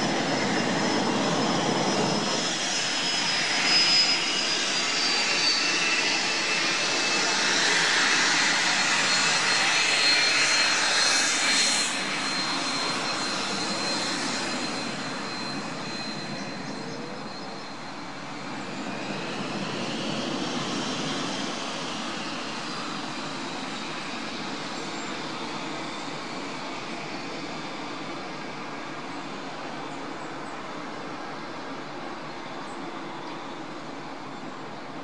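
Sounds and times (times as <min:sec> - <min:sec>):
jet engine whine: 0:00.0 - 0:35.0.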